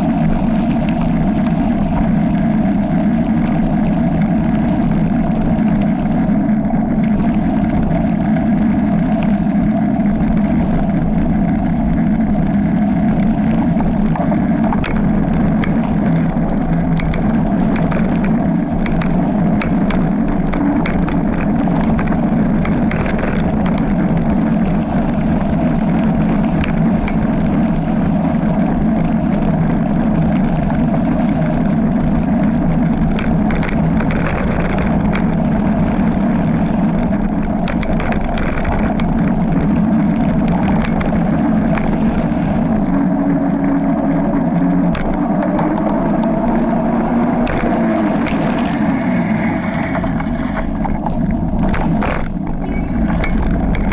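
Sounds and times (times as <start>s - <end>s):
bike rumbling over gravel trail: 0.0s - 53.9s
gravel clicks and rattles: 0.0s - 53.9s.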